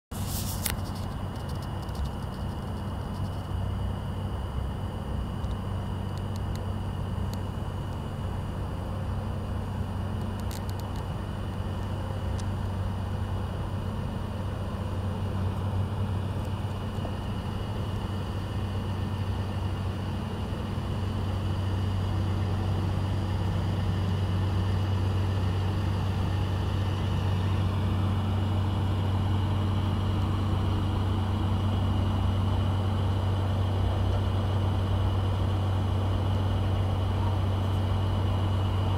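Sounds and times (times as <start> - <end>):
diesel truck engine idling: 0.2 - 38.9.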